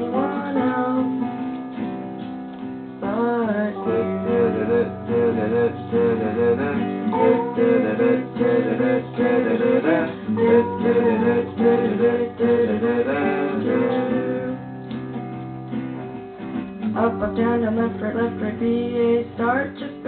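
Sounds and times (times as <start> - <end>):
picked guitar melody: 0.0 - 20.0
strummed acoustic guitar: 0.0 - 20.0.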